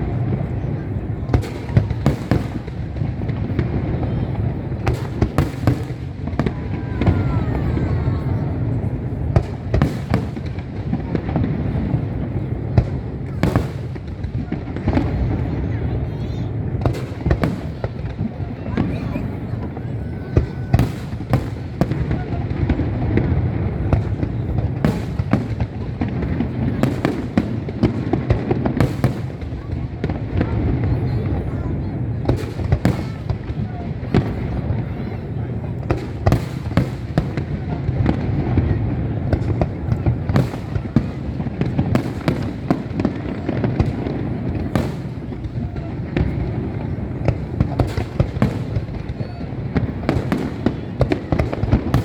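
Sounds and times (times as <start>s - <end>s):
fireworks bangs: 0.0s - 52.0s.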